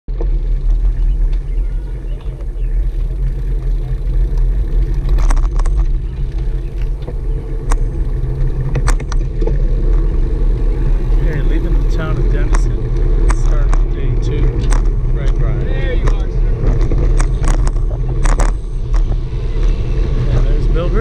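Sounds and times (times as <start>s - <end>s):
road rumble: 0.0s - 21.0s
wind buffeting microphone: 0.1s - 21.0s.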